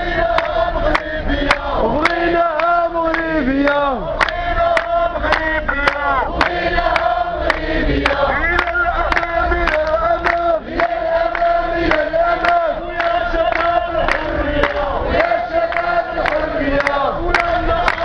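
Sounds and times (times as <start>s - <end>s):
crowd chanting in unison: 0.0s - 18.0s.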